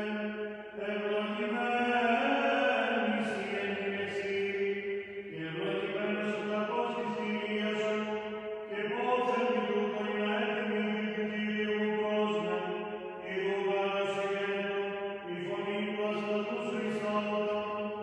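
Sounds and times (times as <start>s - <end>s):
man singing chant: 0.0s - 18.0s.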